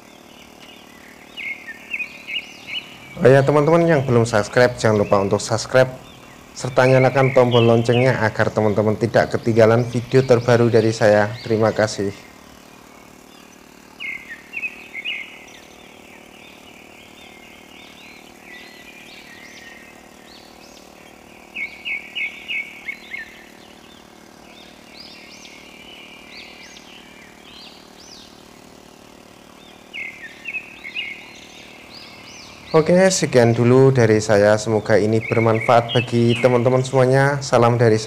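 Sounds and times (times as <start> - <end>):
birds chirping: 0.0 - 38.0
small engine drone: 0.0 - 38.0.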